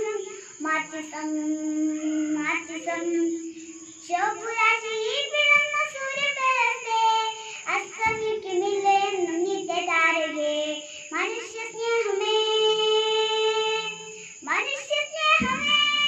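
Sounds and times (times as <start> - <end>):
girl singing: 0.0 - 16.0.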